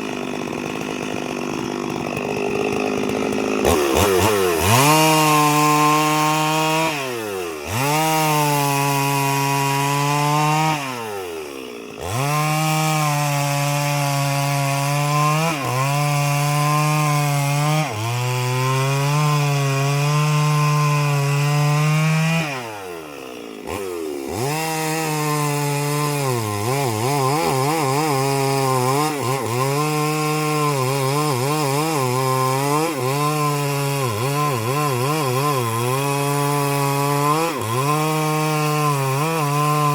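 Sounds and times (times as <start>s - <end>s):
chainsaw cutting tree: 0.0s - 39.9s.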